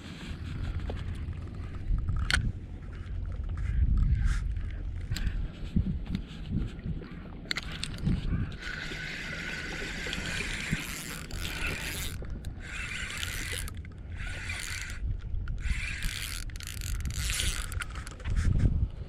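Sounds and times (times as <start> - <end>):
fishing reel whirring with clicks: 0.0 - 5.4, 7.1 - 18.5
low rumble of wind: 0.0 - 19.0
water: 0.0 - 19.0.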